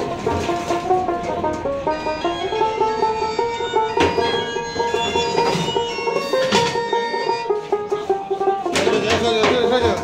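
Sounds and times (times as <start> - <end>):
plucked string instrument music: 0.0 - 10.0.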